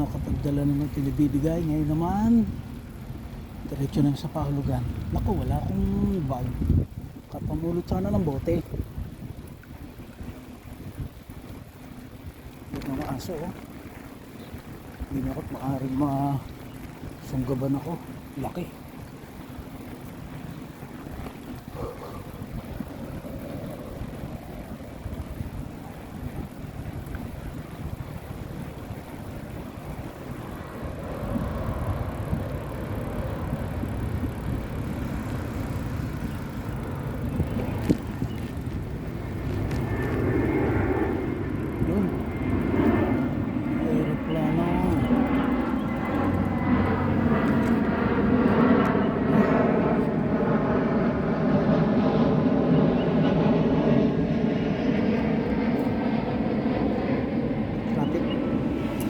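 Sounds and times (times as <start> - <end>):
airplane engine drone: 0.0 - 59.0
wind and road noise: 0.0 - 59.0.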